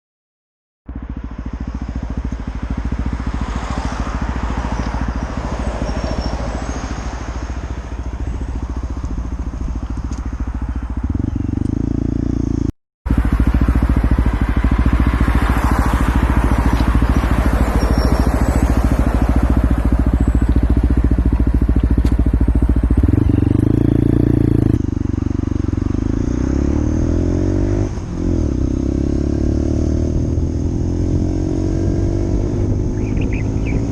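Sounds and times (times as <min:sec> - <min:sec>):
motorcycle engine running: 0:00.9 - 0:33.9.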